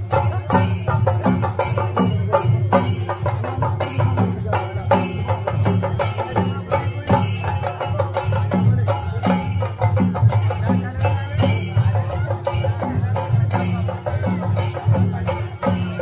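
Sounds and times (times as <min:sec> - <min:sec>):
drums played in fast rhythm: 0:00.0 - 0:16.0.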